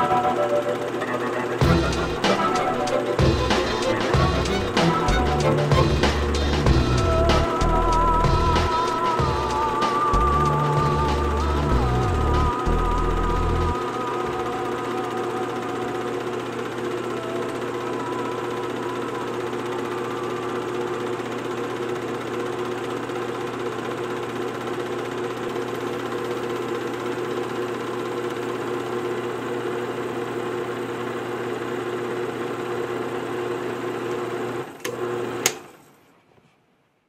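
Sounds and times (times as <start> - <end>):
film projector whirring: 0.0 - 36.0.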